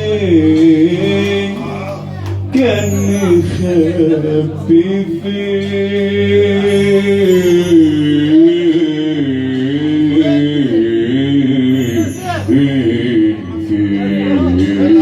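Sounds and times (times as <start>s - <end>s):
low musical accompaniment: 0.0s - 15.0s.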